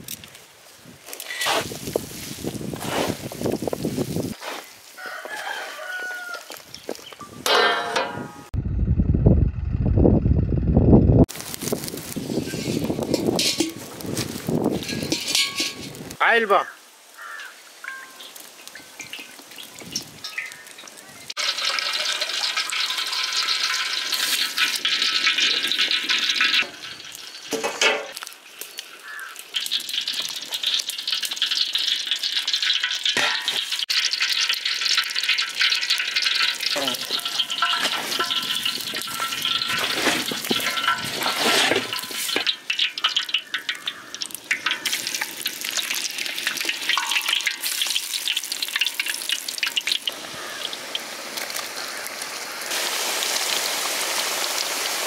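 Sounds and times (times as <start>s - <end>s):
food sizzling in hot oil: 0.0s - 8.2s, 11.3s - 55.0s.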